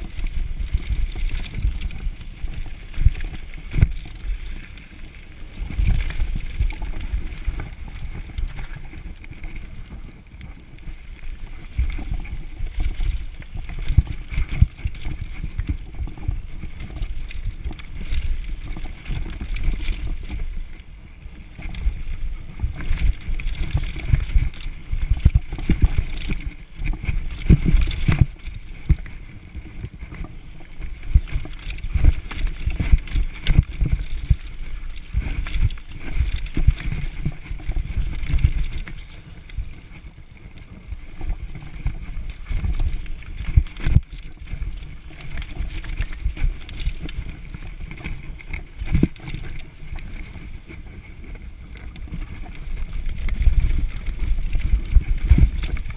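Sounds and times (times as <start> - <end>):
bike rattling and tyre rumble: 0.0 - 55.9.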